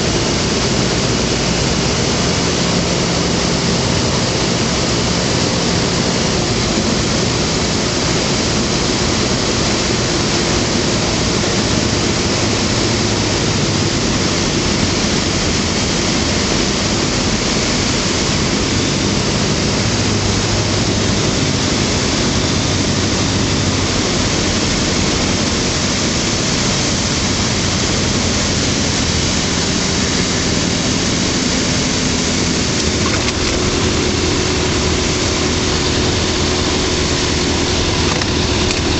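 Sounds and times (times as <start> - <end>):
aircraft engine running: 0.0 - 38.9
airflow noise on microphone: 0.0 - 38.9.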